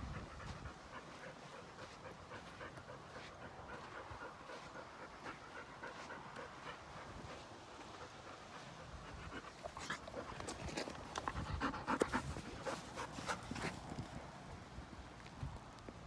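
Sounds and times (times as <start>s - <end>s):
dog panting: 0.0s - 14.1s.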